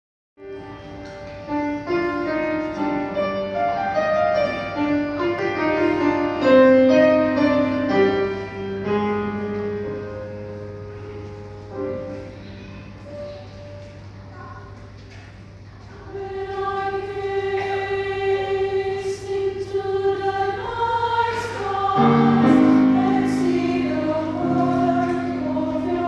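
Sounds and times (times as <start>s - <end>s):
grand piano chords: 0.4s - 26.0s.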